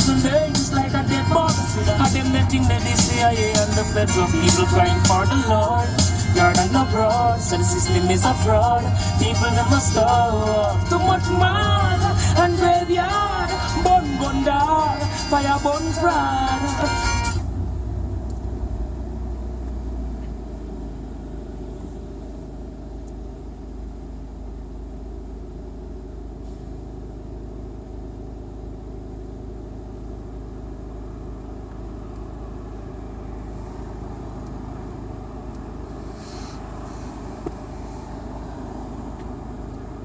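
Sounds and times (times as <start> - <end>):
tyre and road noise: 0.0 - 23.8, 31.0 - 40.0
diesel engine low rumble: 0.0 - 40.0.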